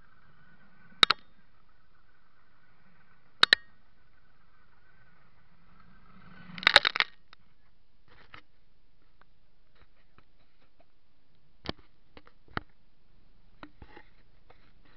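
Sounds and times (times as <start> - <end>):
faint high whine: 0.0 - 14.9.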